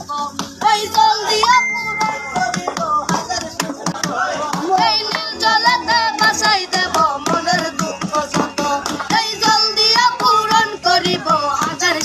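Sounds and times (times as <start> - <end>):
boy singing folk song: 0.0 - 12.0
percussion beats: 0.0 - 12.0.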